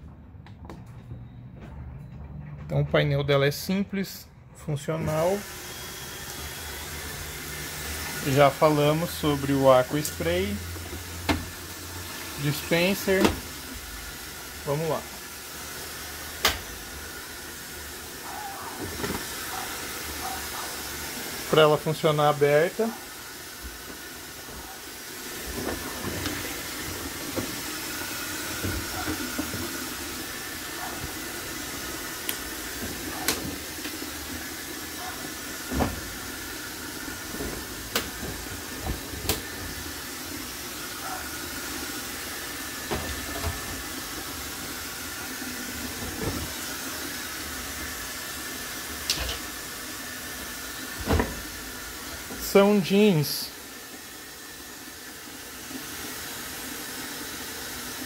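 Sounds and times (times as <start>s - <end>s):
water spraying into drum: 5.1s - 58.0s.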